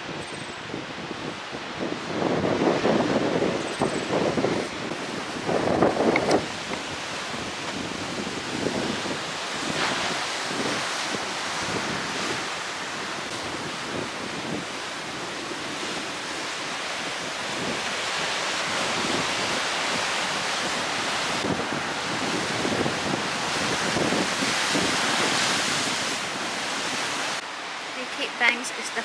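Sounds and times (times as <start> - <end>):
wind on microphone: 0.0 - 27.4.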